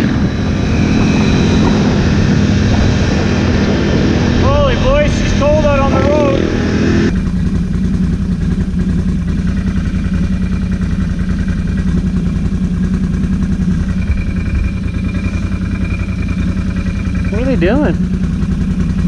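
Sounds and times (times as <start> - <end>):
atv engine running steadily: 0.0 - 19.0.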